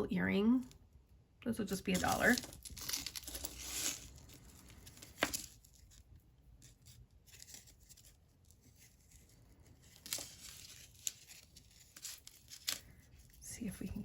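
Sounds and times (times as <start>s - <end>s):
packaging rustle: 1.9s - 13.4s.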